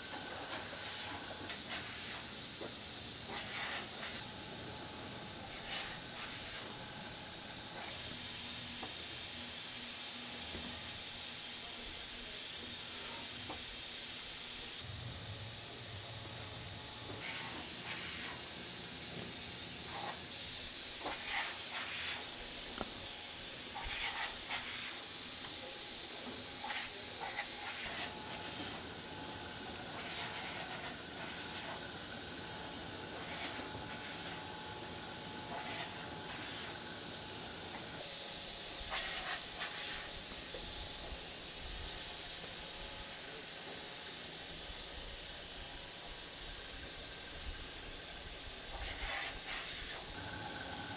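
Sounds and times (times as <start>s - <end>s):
steady high hiss: 0.0s - 50.9s.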